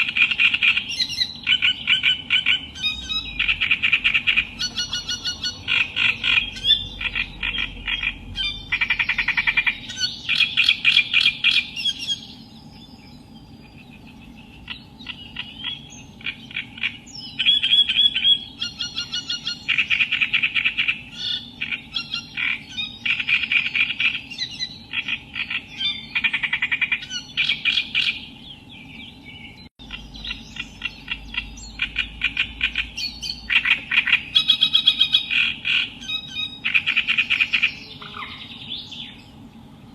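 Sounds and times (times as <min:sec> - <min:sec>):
faint background hum: 0:00.0 - 0:39.9
reed warbler singing: 0:00.0 - 0:39.9.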